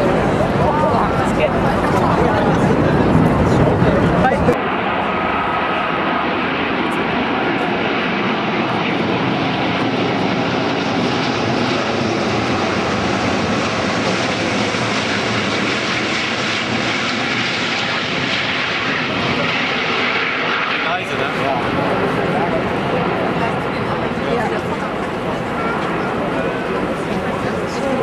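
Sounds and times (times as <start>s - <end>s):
jet airliner flying overhead: 0.0s - 28.0s.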